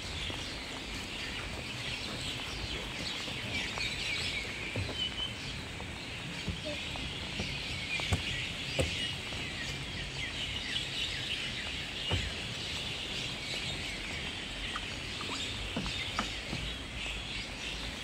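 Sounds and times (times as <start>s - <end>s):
footsteps on climbing stairs: 0.0s - 18.0s
small birds chirping: 0.0s - 18.0s.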